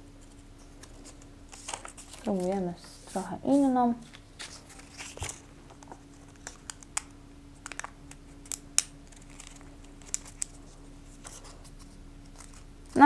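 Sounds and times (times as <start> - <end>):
paper rustling: 0.2 - 6.9, 7.6 - 13.0.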